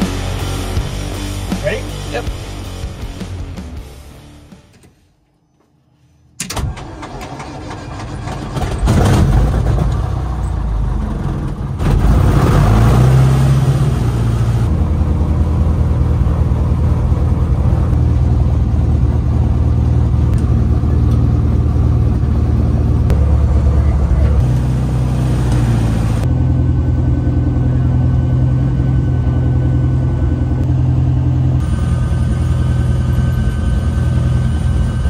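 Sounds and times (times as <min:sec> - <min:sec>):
aircraft engine starting and running: 0:00.0 - 0:05.0, 0:06.4 - 0:35.0.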